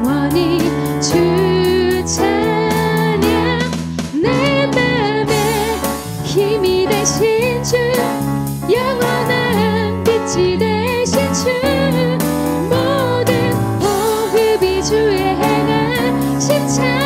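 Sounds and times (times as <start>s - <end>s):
women singing in unison: 0.0s - 8.1s, 8.7s - 17.0s
drums with cymbal beat: 0.0s - 17.0s
keyboard: 0.0s - 17.0s.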